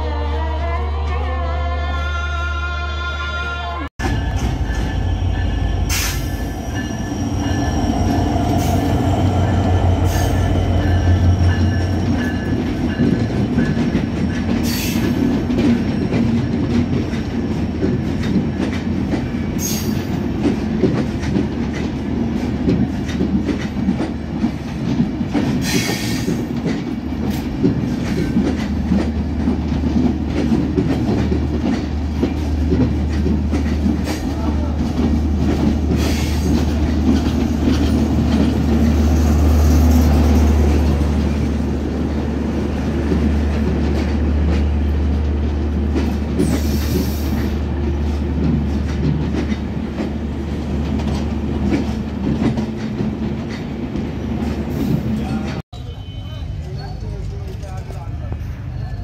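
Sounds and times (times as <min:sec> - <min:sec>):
train wheels rumbling on rails: 0:04.0 - 0:59.0
clickety-clack over rail joints: 0:05.9 - 0:55.6, 0:56.6 - 0:59.0.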